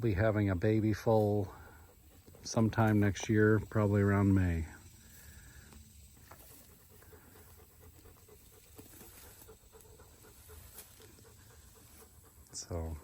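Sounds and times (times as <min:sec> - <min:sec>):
dog panting: 0:00.2 - 0:04.3, 0:06.4 - 0:13.0.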